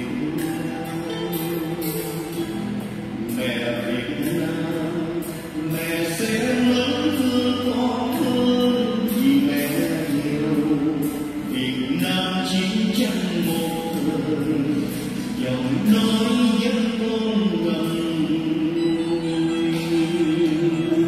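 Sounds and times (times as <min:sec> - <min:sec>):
instrumental backing music: 0:00.0 - 0:21.0
man singing through microphone: 0:00.0 - 0:21.0.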